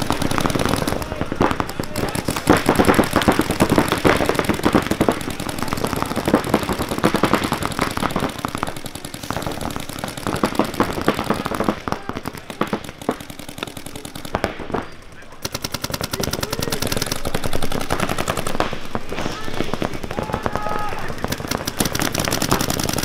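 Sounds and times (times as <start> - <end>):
paintball markers firing: 0.0 - 23.0.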